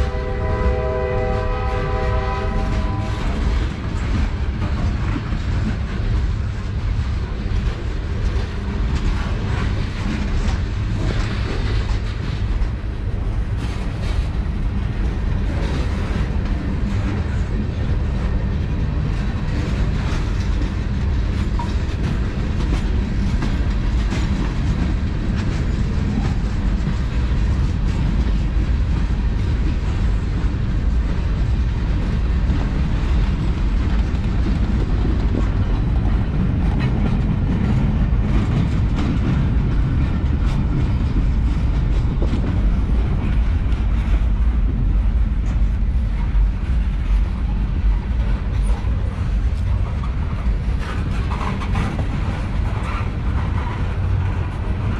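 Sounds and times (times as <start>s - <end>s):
rail clicks: 0.0s - 54.9s
train wheels rumbling on rail: 0.0s - 54.9s.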